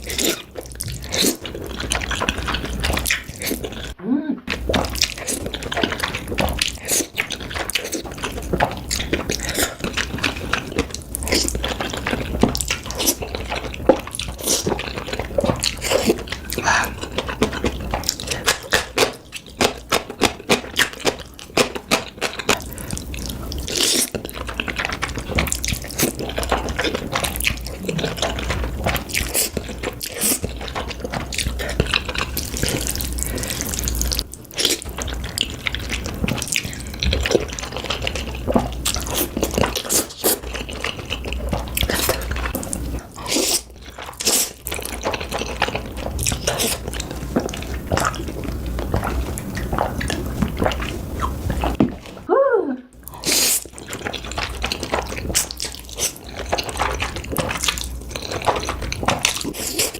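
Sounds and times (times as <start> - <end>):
slurping food: 0.0 - 19.2, 22.0 - 24.2, 24.8 - 52.3, 53.0 - 59.9
wet chewing and mouth smacks: 0.0 - 52.3, 53.0 - 59.9.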